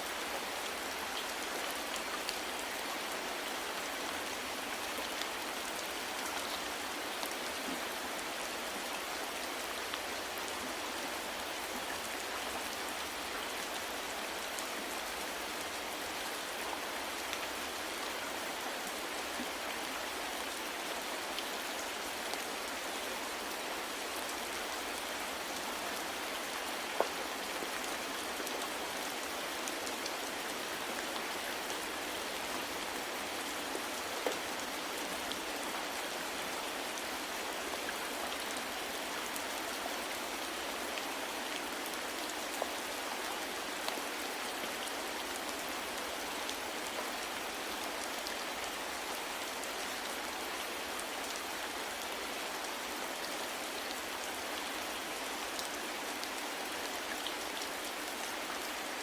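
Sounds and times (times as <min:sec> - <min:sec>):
raindrops: 0:00.0 - 0:59.0.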